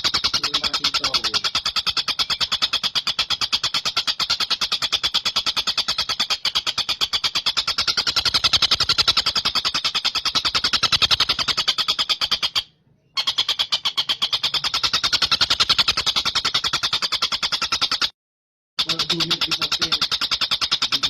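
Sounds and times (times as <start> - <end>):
kingfisher rattling call: 0.0 - 18.1, 18.8 - 21.0.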